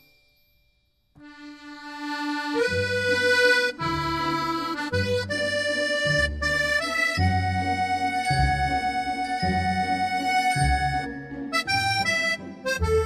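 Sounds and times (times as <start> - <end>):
background music: 1.2 - 13.0
bass line: 2.3 - 13.0.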